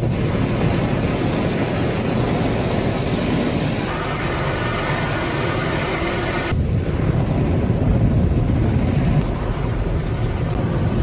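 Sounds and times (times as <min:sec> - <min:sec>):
water jets spraying on car: 0:00.0 - 0:07.2, 0:07.9 - 0:11.0.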